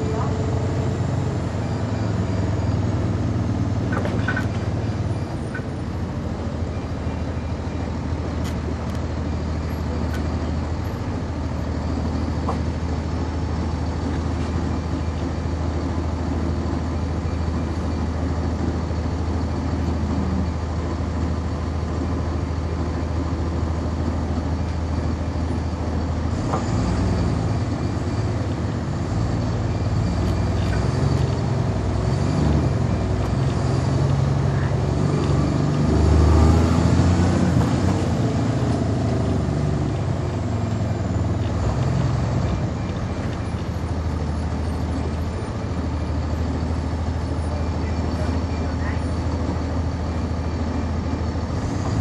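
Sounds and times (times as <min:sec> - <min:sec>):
bus engine hum: 0:00.0 - 0:52.0
drivetrain whine: 0:00.0 - 0:52.0.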